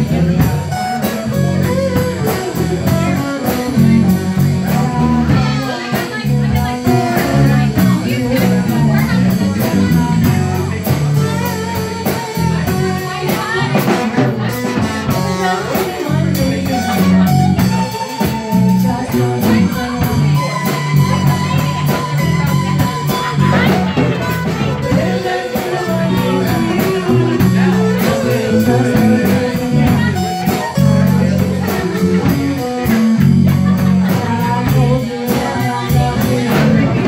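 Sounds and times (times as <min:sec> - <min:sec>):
bass guitar: 0:00.0 - 0:37.0
drum kit steady beat: 0:00.0 - 0:37.0
electric guitar: 0:00.0 - 0:37.0
woman singing into microphone: 0:00.0 - 0:37.0.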